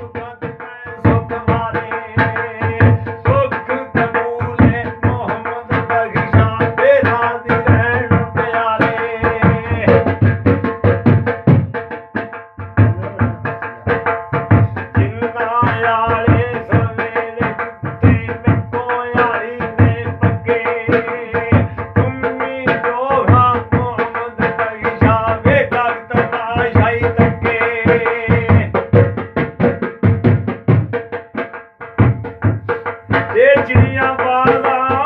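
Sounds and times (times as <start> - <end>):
hand drum fast rhythm: 0.0 - 35.0.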